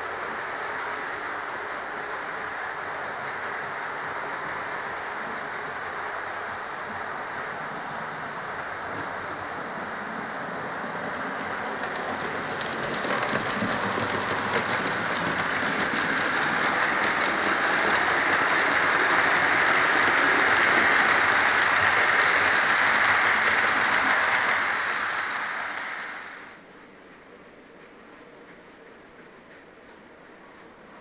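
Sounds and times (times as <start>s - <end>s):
model train wheels rumbling: 0.0s - 31.0s.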